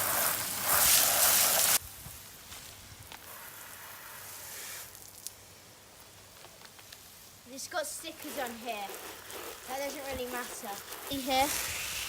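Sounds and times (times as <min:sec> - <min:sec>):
garden hose spraying water: 0:00.0 - 0:12.0.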